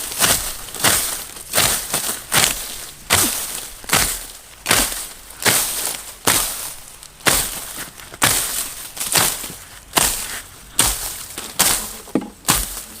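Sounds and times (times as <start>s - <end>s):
hand tool chopping: 0.1s - 13.0s.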